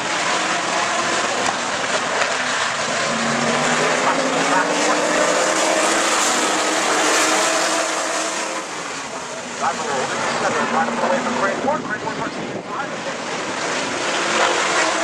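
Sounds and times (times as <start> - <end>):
race car engines passing: 0.0 - 15.0
steady rushing noise: 0.0 - 15.0.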